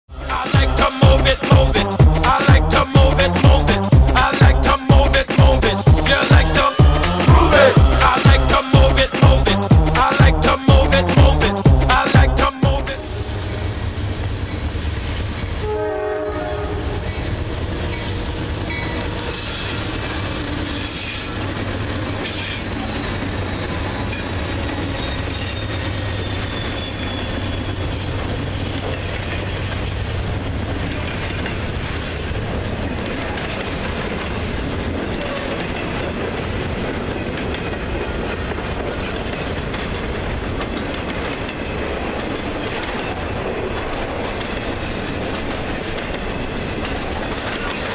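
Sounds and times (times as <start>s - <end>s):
diesel locomotive rumble: 0.1s - 47.9s
train cars clickety-clack: 0.2s - 47.9s.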